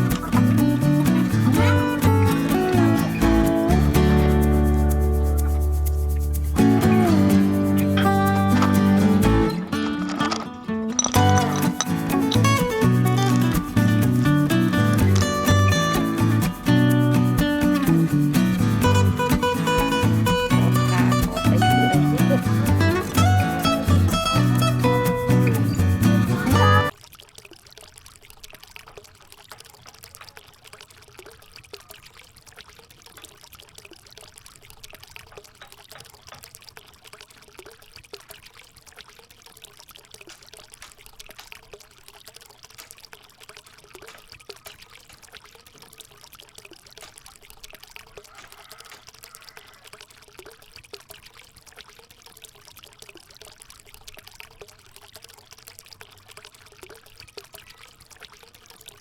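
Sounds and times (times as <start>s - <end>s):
water trickling into a basin: 0.0s - 59.0s.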